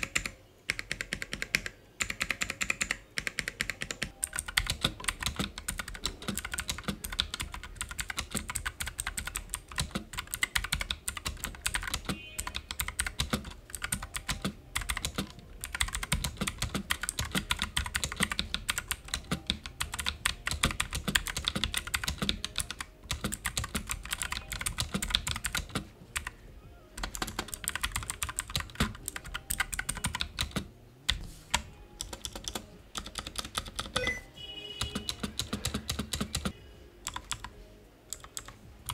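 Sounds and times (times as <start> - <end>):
clicky mechanical keyboard typing: 0.0 - 26.4, 27.0 - 34.2, 34.8 - 38.9.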